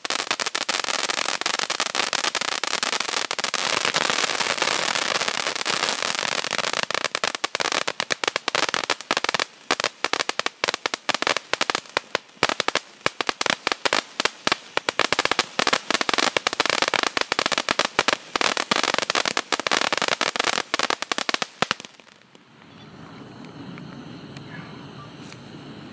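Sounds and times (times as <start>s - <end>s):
firework crackling pops: 0.0s - 22.7s
fountain firework hissing sparks: 0.0s - 25.9s.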